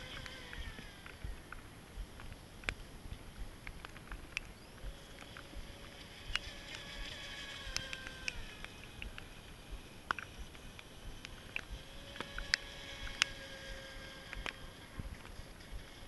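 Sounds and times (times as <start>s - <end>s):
sharp clicks: 0.0s - 15.9s
distant electric motor whine: 0.0s - 16.0s
wind buffeting microphone: 0.0s - 16.0s.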